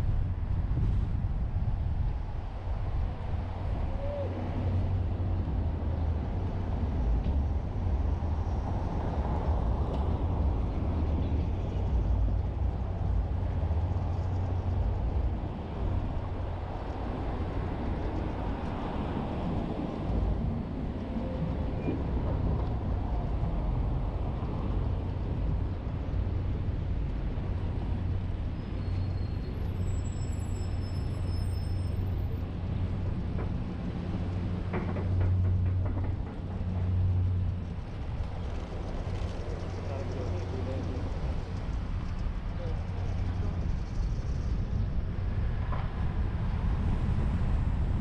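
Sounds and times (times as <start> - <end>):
road and engine rumble: 0.0 - 48.0
street traffic: 0.0 - 48.0.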